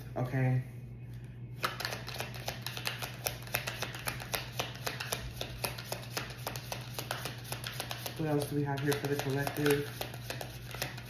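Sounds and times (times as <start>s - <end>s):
cards being shuffled: 1.6s - 11.0s.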